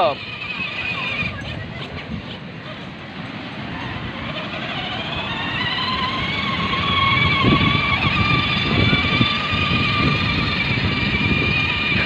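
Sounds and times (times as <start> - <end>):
toy car electric motor whining: 0.0 - 2.0, 3.4 - 12.0.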